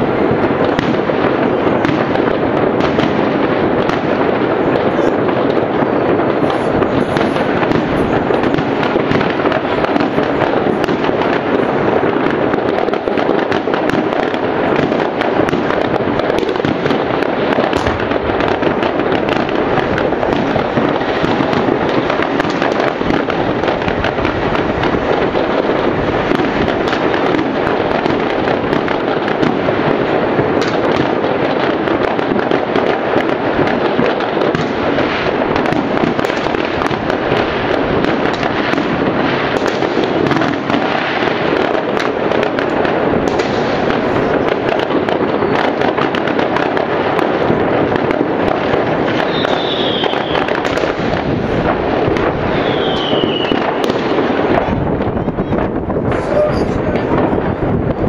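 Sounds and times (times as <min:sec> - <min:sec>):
fireworks and firecrackers crackling: 0:00.0 - 0:58.0.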